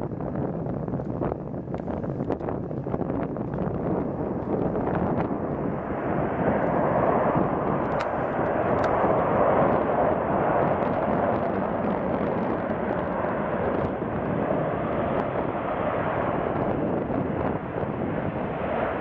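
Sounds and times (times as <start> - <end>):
turboprop engines and propellers running: 0.0 - 19.0.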